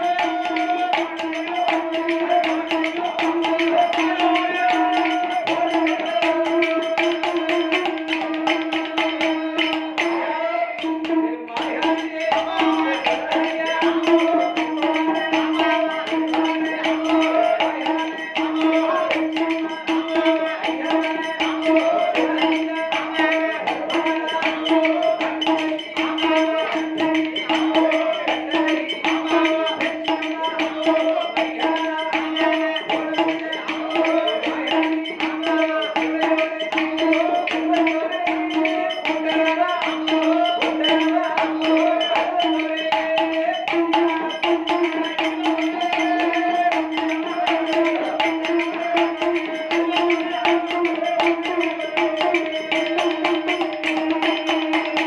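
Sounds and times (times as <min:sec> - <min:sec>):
fast percussion on bow and drums: 0:00.0 - 0:55.0.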